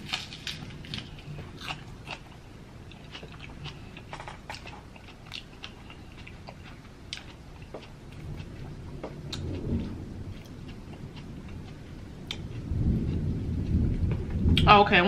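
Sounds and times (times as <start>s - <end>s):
person chewing and smacking food: 0.0s - 14.6s
low steady rumble: 0.0s - 15.0s.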